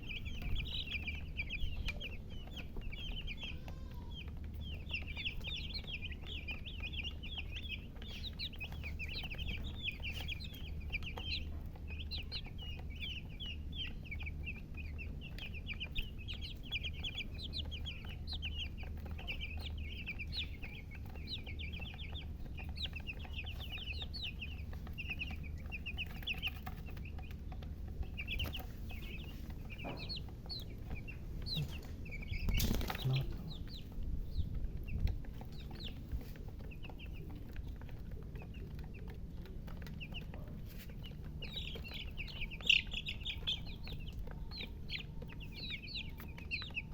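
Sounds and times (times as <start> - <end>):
chicks peeping: 0.0 - 46.9.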